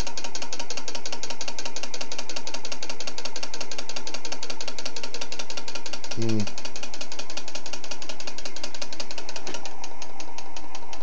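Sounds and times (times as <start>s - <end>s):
rotor ticking rattle: 0.0s - 11.0s.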